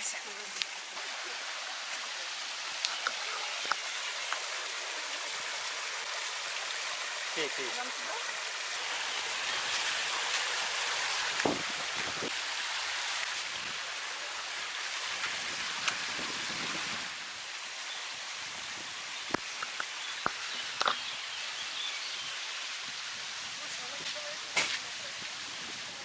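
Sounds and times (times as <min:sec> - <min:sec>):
water pouring and splashing: 0:00.0 - 0:26.0.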